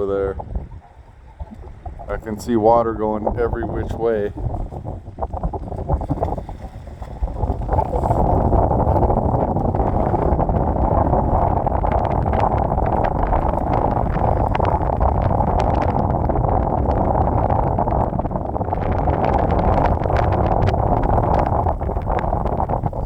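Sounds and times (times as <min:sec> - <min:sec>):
low rumble: 0:00.0 - 0:23.0
wind buffeting microphone: 0:00.0 - 0:23.0.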